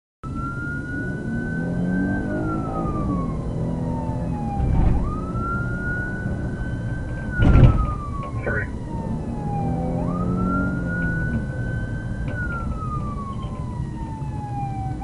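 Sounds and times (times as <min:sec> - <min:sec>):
police siren wailing: 0:00.2 - 0:15.0
road noise: 0:00.2 - 0:15.0
car engine pulling hard: 0:00.4 - 0:13.8.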